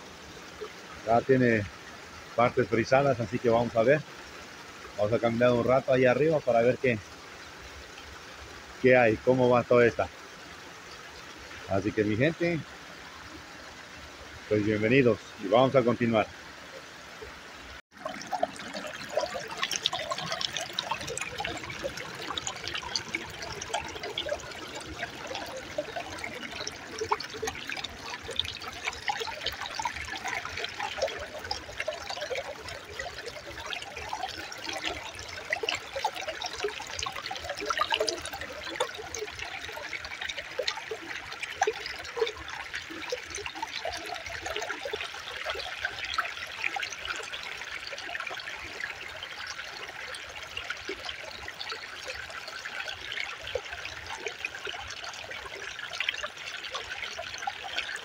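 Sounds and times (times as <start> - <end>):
creek water splashing over rocks: 0.0 - 58.0.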